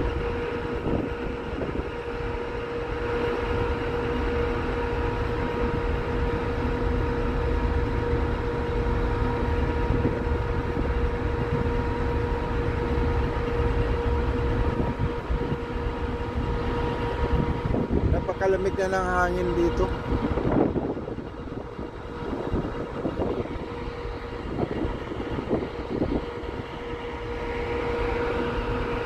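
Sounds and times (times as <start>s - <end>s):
wind on microphone: 0.0s - 3.9s, 4.6s - 29.0s
ship engines droning: 0.0s - 29.0s.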